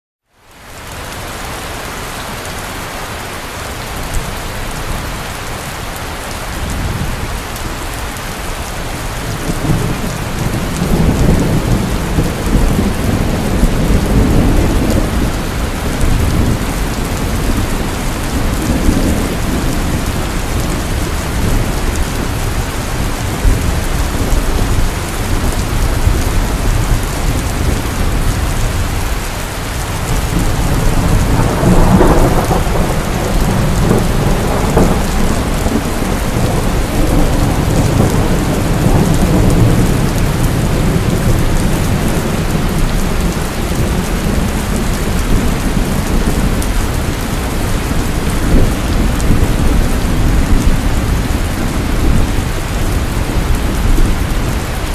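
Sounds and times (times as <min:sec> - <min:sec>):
heavy rain pouring: 0:00.3 - 0:54.9
low rolling thunder: 0:09.0 - 0:54.9.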